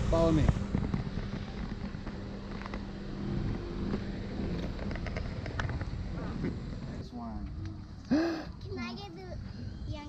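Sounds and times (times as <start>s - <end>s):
outdoor road noise: 0.0s - 10.0s
vehicle engine humming: 0.0s - 10.0s.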